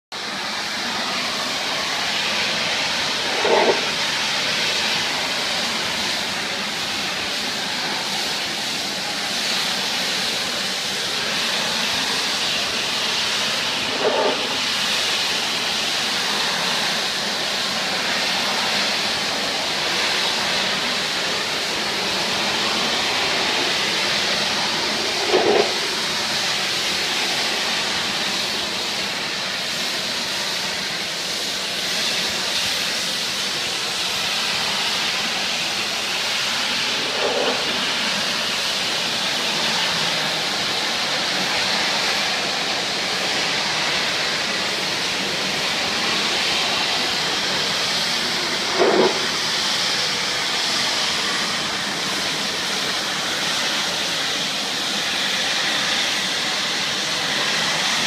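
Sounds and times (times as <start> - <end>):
pressure washer spraying wood: 0.2 - 58.0.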